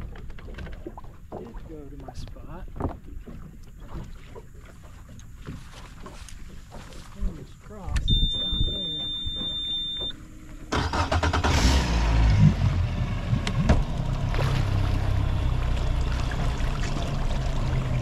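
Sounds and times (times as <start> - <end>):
outboard motor starting and running: 2.8 - 18.0.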